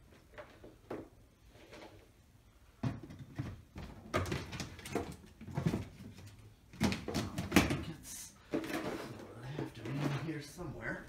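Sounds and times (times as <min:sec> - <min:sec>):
objects knocking and clunking: 0:00.0 - 0:11.0.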